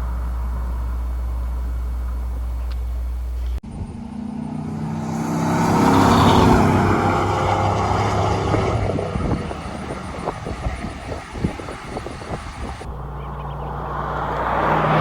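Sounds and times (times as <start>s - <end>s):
truck exhaust revving: 0.0s - 15.0s.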